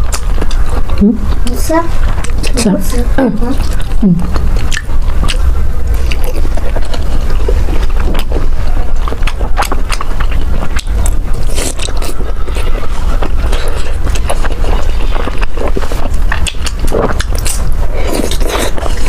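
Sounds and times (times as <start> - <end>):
chewing and biting food: 0.0 - 19.0
steady low rumble: 0.0 - 19.0.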